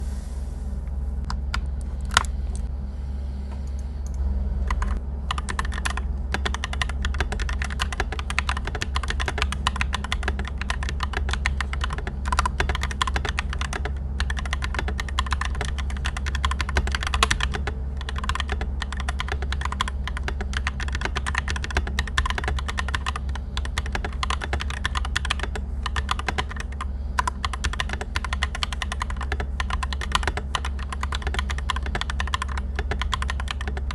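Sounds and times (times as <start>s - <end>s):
typing on mechanical keyboard: 4.7s - 33.9s.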